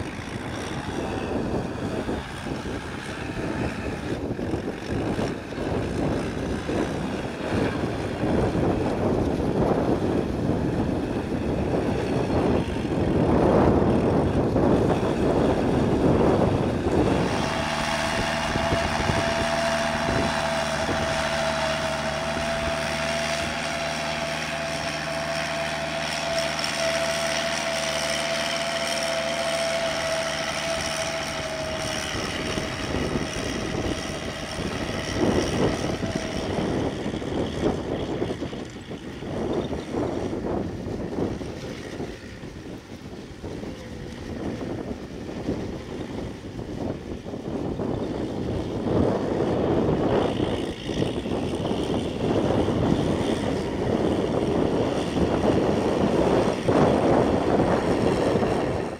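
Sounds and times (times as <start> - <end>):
constant high whine: 0.0 - 58.9
rotary tiller churning soil: 0.0 - 58.9
tractor diesel engine under load: 0.0 - 58.9.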